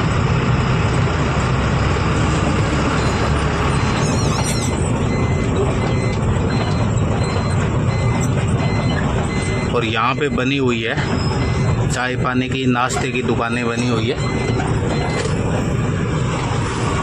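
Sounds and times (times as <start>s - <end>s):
diesel truck engine running: 0.0s - 17.0s
road noise: 0.0s - 17.0s.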